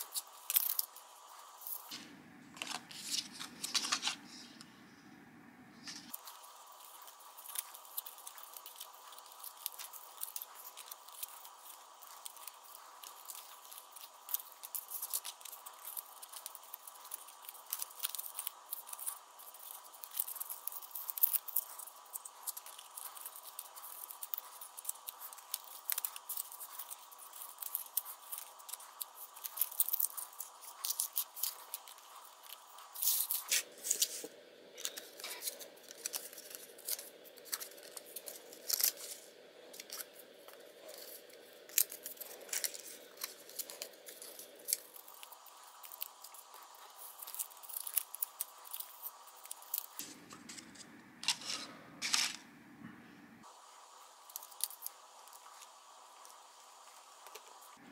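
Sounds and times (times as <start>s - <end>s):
cardstock paper rustling: 0.0s - 4.7s, 5.7s - 52.4s.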